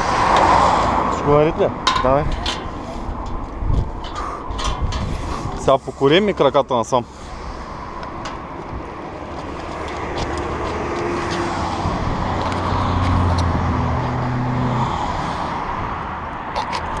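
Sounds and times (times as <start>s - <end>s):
vehicle passing close by: 0.0s - 17.0s.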